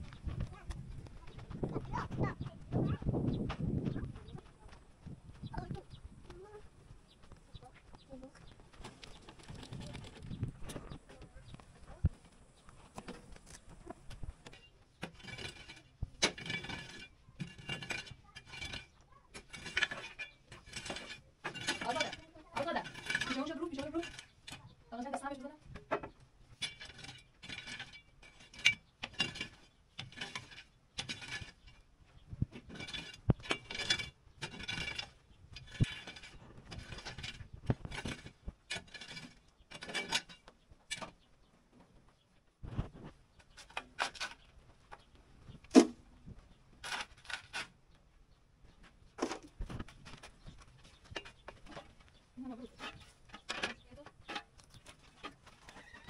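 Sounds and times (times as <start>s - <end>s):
rake scraping dirt: 7.3s - 11.6s, 12.2s - 41.3s, 42.6s - 47.9s, 49.2s - 56.0s.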